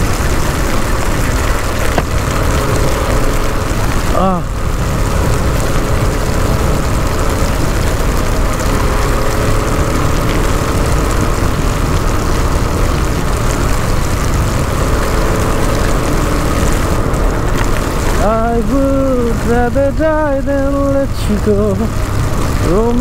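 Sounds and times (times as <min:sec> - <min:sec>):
motorcycle engine hum: 0:00.0 - 0:23.0
wind noise on microphone: 0:00.0 - 0:23.0.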